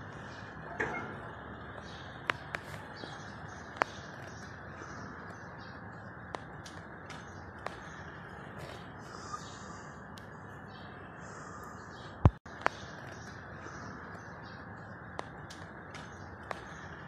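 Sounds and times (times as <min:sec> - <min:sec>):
bird calls: 0:00.0 - 0:17.0.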